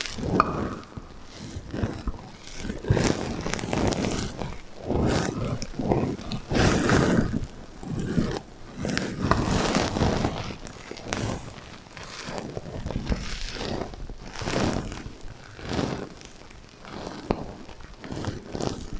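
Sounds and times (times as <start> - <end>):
hand scratching sequins: 0.0 - 18.9.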